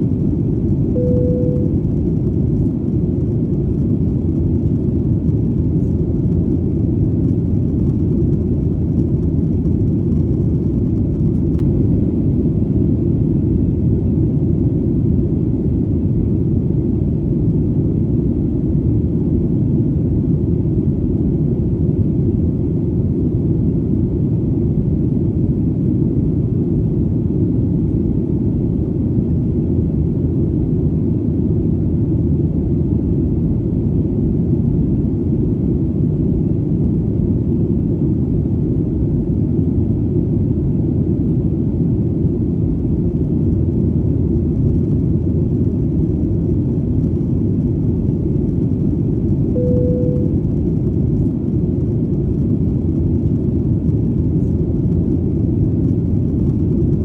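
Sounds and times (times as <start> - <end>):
airplane engine drone: 0.0 - 57.0.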